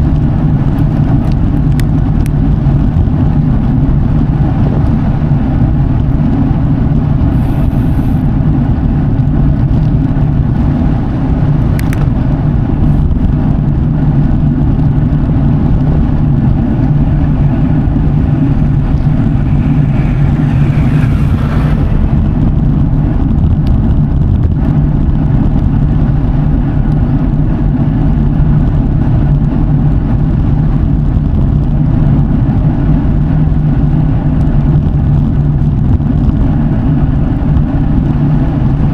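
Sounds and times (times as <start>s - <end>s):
bike tyres humming on road: 0.0s - 38.9s.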